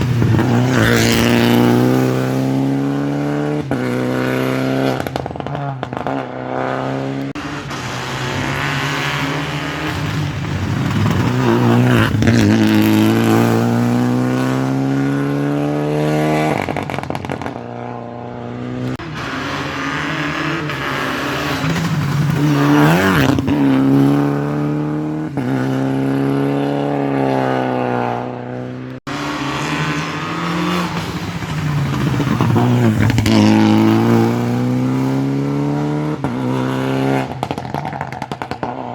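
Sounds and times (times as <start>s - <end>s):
rally car engines at full throttle: 0.0s - 38.9s.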